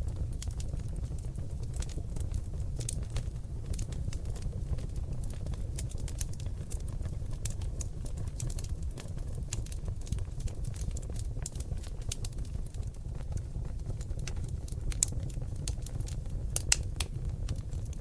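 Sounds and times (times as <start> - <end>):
logs crackling in a fireplace: 0.0 - 18.0.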